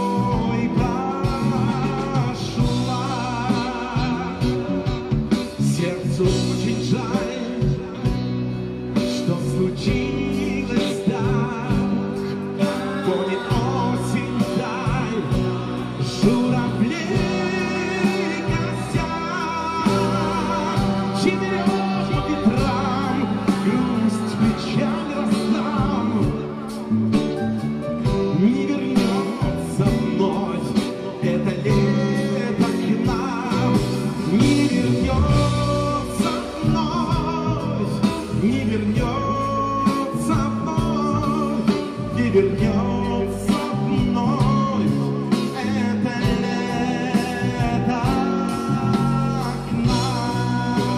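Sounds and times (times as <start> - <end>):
drum kit: 0.0 - 50.9
electric bass: 0.0 - 50.9
electric guitar: 0.0 - 50.9
man singing: 0.0 - 50.9.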